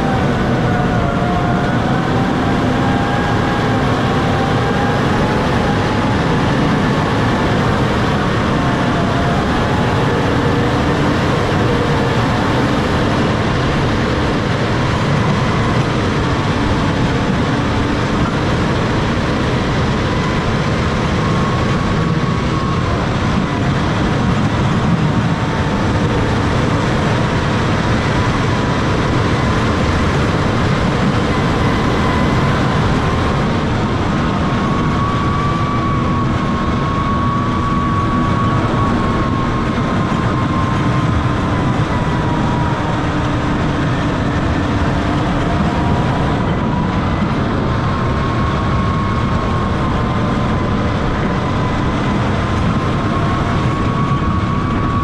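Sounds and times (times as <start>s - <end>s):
high whine: 0.0s - 55.0s
tractor diesel engine under load: 0.0s - 55.0s.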